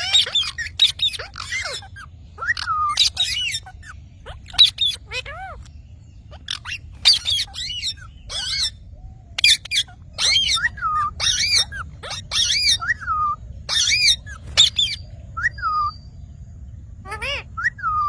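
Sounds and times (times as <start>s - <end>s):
parrot squawks and chirps: 0.0s - 16.0s, 17.0s - 18.0s.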